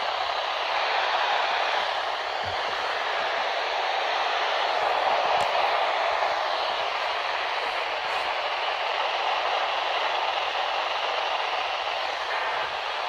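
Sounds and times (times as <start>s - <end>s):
tv static hiss: 0.0s - 13.0s.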